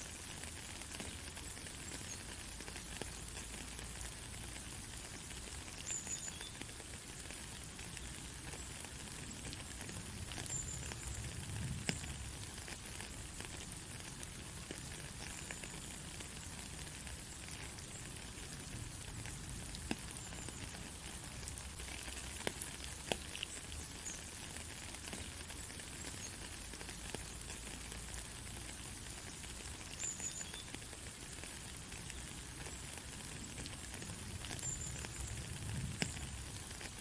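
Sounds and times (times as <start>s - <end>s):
rain falling on road: 0.0s - 37.0s
raindrop ticks: 0.0s - 37.0s.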